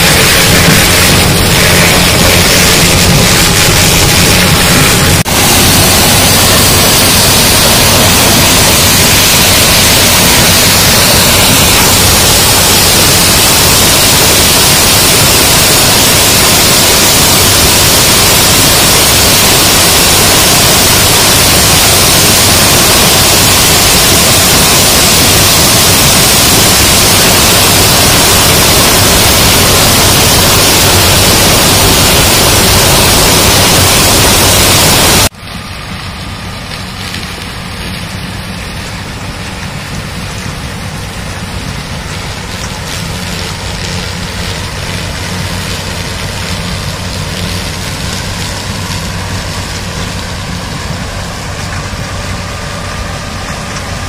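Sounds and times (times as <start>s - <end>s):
corn stalks thrashing in harvester: 0.0s - 54.0s
low machine hum: 0.0s - 54.0s.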